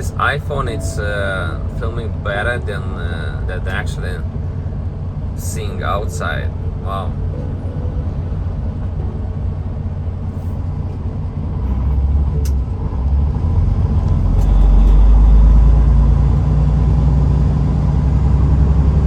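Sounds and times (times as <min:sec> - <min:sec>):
road noise: 0:00.0 - 0:19.0
truck diesel engine rumble: 0:00.0 - 0:19.0.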